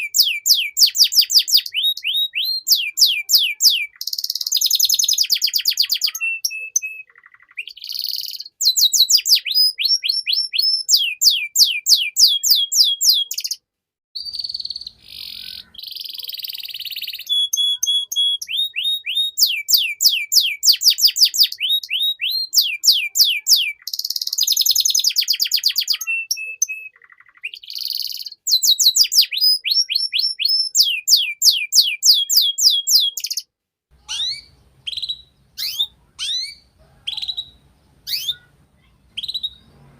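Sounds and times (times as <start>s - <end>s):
canary singing: 0.0s - 13.6s, 14.2s - 39.9s.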